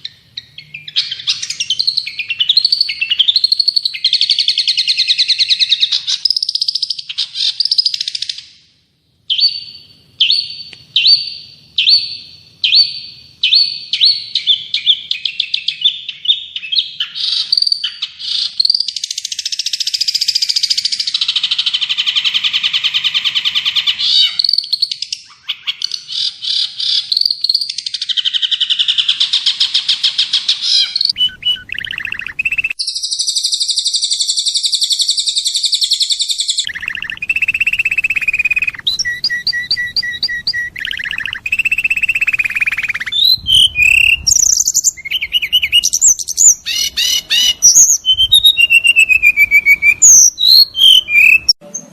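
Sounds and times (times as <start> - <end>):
songbird trills and warbles: 0.0 - 8.7, 9.3 - 51.9.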